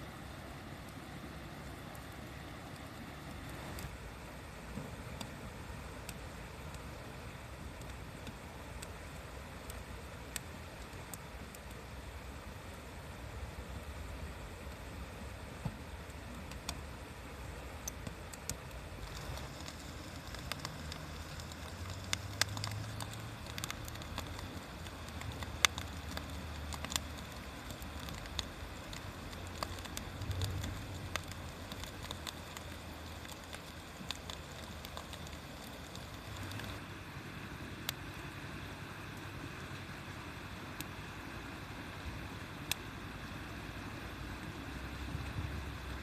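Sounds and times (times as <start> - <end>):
steady low rumble: 0.0 - 46.0
wood fire crackling and popping: 0.2 - 41.6, 42.2 - 43.4.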